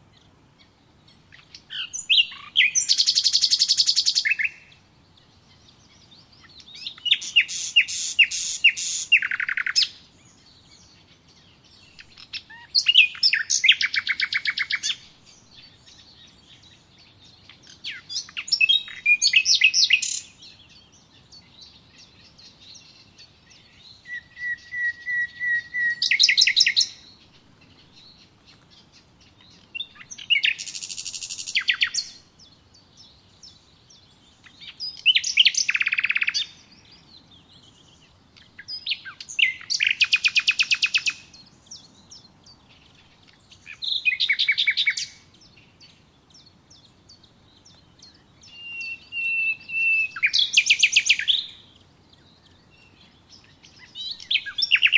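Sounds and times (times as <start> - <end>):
songbird trilling: 0.9 - 4.8, 5.5 - 54.9.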